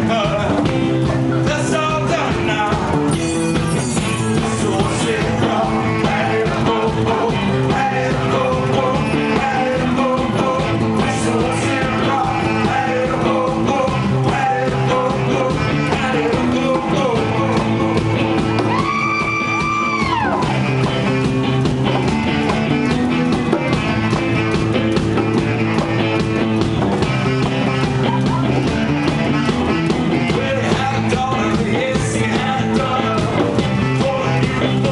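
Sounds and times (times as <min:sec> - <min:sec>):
person singing: 0:00.0 - 0:20.7, 0:27.2 - 0:34.9
live rock band playing: 0:00.0 - 0:34.9.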